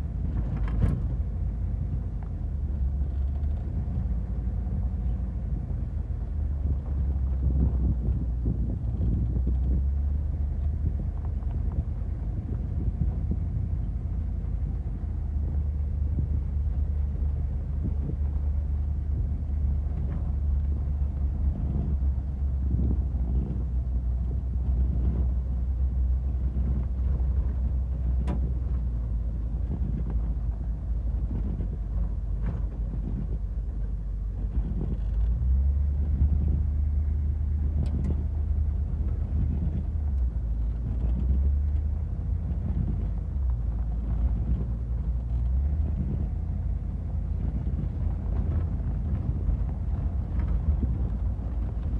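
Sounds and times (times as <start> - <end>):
diesel engine rumble: 0.0 - 51.9.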